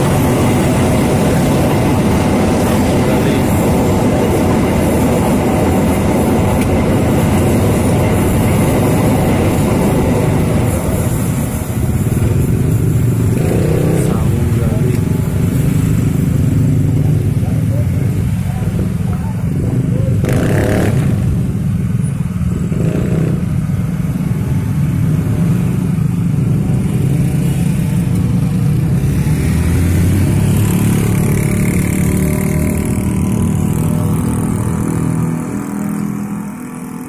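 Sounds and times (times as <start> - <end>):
minibus engine: 0.0 - 37.0
motorcycle engines revving: 0.0 - 37.0.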